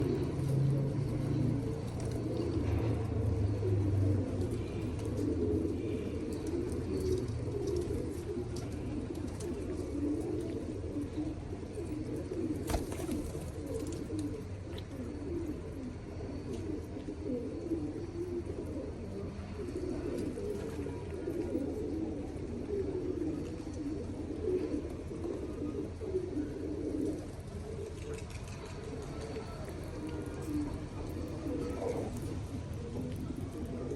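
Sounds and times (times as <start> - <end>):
pigeons cooing: 0.0 - 33.9.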